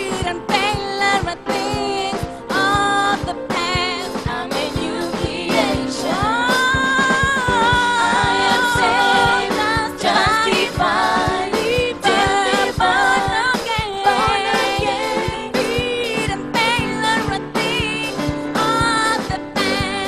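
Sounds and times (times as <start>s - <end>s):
band with steady drum beat: 0.0s - 20.0s
gospel singers singing: 0.0s - 20.0s.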